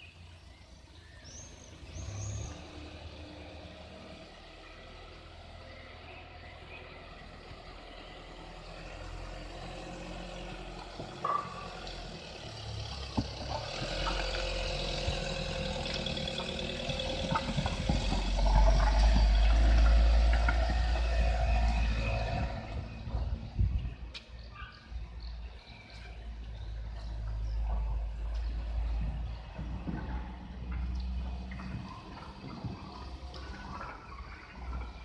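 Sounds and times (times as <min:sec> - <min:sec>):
van engine rumbling: 0:00.0 - 0:35.0.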